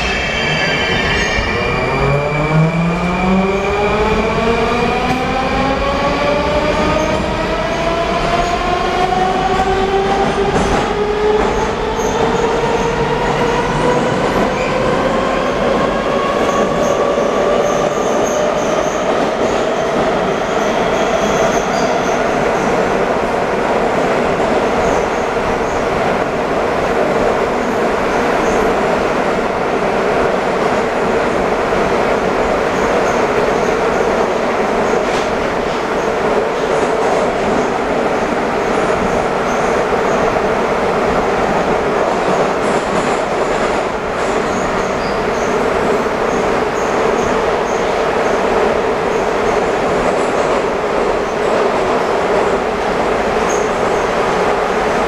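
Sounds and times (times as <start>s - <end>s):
metro traction drive whine: 0.0s - 55.0s
rumble of wheels in tunnel: 1.6s - 55.0s.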